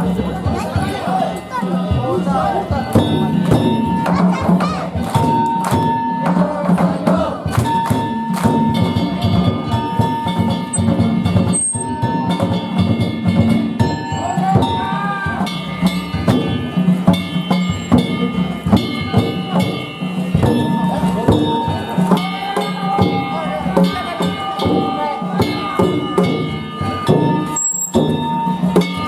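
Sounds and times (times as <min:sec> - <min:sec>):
drum: 0:00.0 - 0:29.0.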